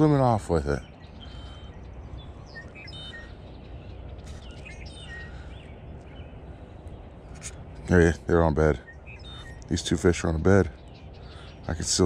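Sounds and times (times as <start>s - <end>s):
faint birds chirping: 0.0s - 12.0s
outdoor background hiss: 0.0s - 12.0s.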